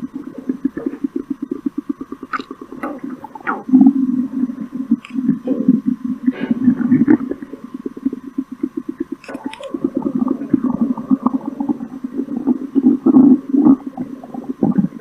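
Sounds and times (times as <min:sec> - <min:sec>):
sharp crackle: 0:00.0 - 0:12.6
stomach growling: 0:00.0 - 0:15.0.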